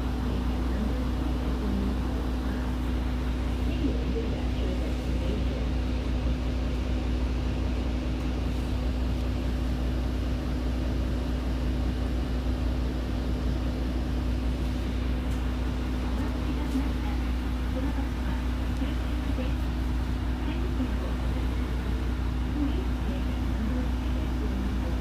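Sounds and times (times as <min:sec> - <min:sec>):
bus engine and road rumble: 0:00.0 - 0:25.0
cabin hum: 0:00.0 - 0:25.0.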